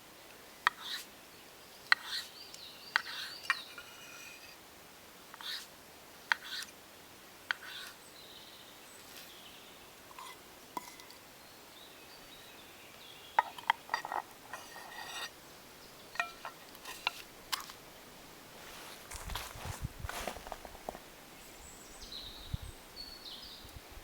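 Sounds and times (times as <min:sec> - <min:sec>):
quiet outdoor background: 0:00.0 - 0:24.0.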